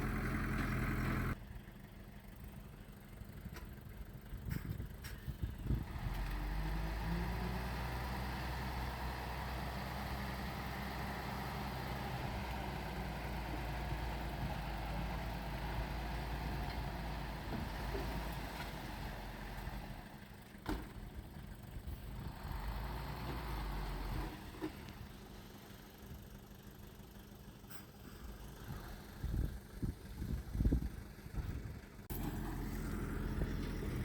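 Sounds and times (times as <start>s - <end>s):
diesel earthmoving machinery drone: 0.0s - 34.0s.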